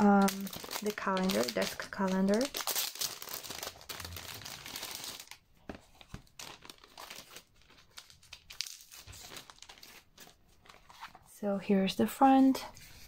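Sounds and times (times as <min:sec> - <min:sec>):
plastic sleeve crinkling: 0:00.0 - 0:11.2.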